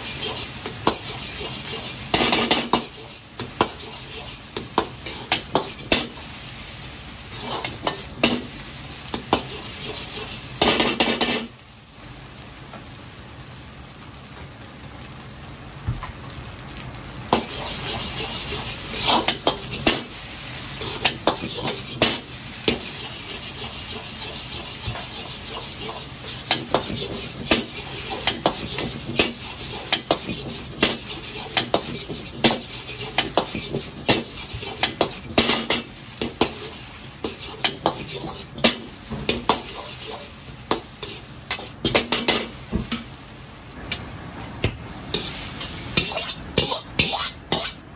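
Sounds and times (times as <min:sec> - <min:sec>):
metal utensil scraping wok: 0:00.0 - 0:06.3, 0:07.2 - 0:11.5, 0:17.3 - 0:43.2, 0:45.0 - 0:47.9
food sizzling in a wok: 0:00.0 - 0:47.9.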